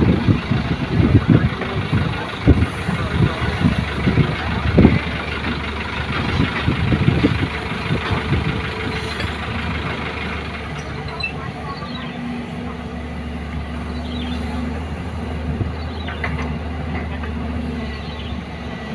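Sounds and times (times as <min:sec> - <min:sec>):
heavy diesel engines running: 0:00.0 - 0:18.9.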